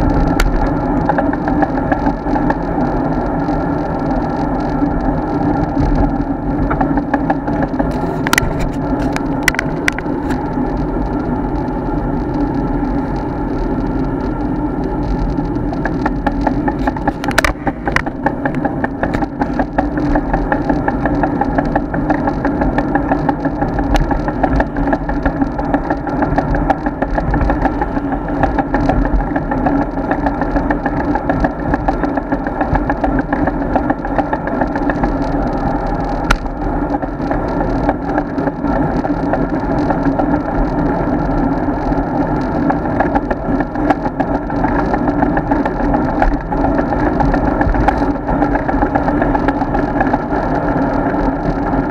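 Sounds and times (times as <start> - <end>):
road and wind noise: 0.0 - 51.9.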